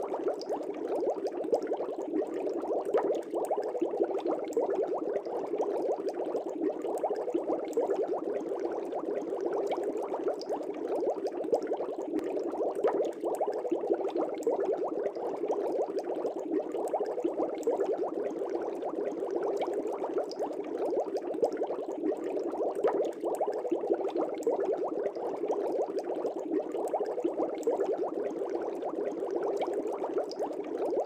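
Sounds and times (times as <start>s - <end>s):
aquarium air bubbling: 0.0s - 31.0s.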